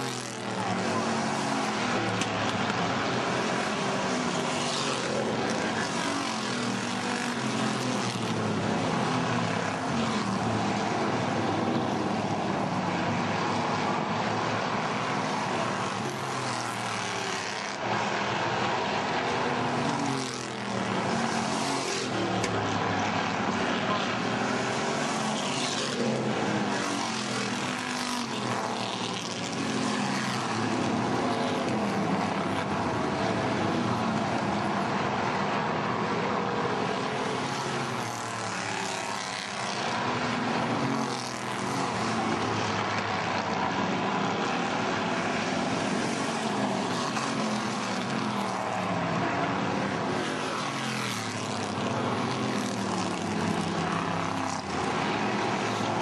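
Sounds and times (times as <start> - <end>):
racing car engines droning: 0.0 - 56.0.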